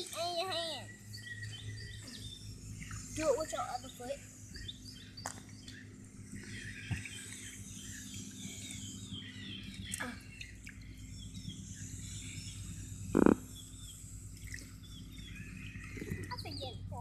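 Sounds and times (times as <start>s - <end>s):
birds chirping: 0.0s - 17.0s
faint low hum: 0.0s - 17.0s.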